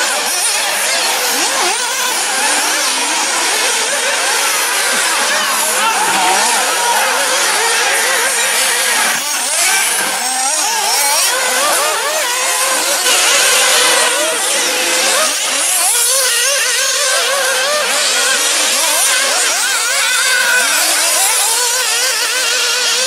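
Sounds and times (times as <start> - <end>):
small engines revving high-pitched: 0.0 - 23.0.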